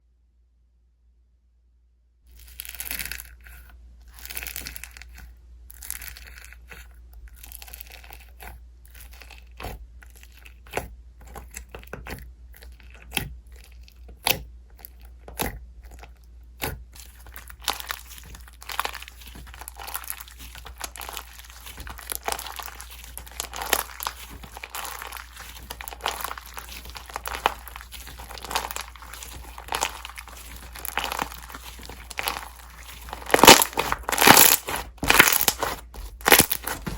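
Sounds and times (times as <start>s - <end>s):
slime squished by hand: 2.3s - 36.9s.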